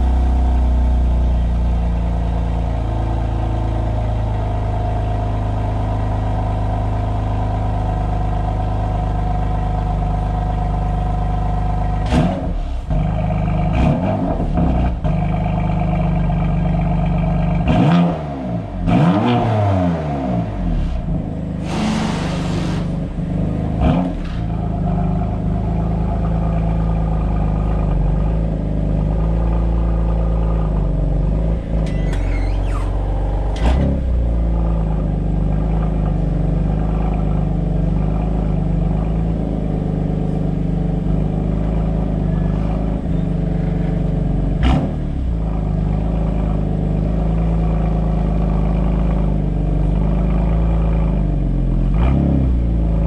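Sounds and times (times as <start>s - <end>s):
car engine idling: 0.0s - 17.8s, 20.4s - 53.0s
car engine revving: 0.0s - 53.0s.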